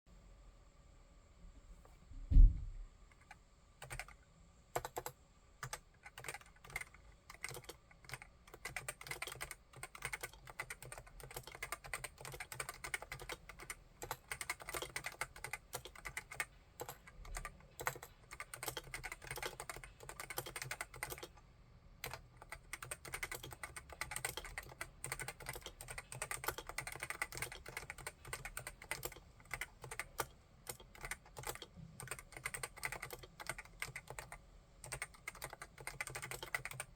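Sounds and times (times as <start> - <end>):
keyboard typing: 3.2 - 4.2, 4.8 - 21.4, 22.0 - 36.9.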